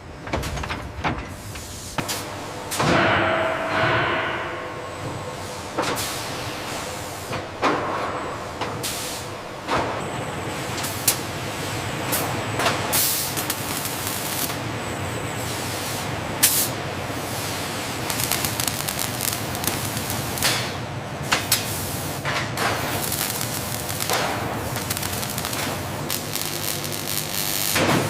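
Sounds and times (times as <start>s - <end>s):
industrial machinery running: 0.0s - 28.0s.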